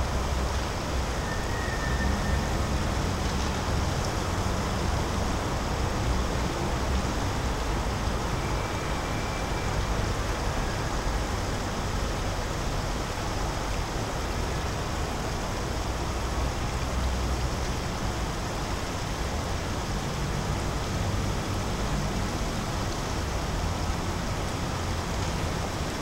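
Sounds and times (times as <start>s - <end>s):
low city rumble: 0.0s - 26.0s.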